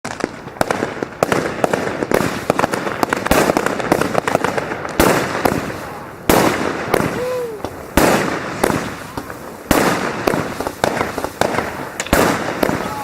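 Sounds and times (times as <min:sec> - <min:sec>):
fireworks banging and crackling: 0:00.0 - 0:13.0
loud firework booms: 0:00.0 - 0:13.0.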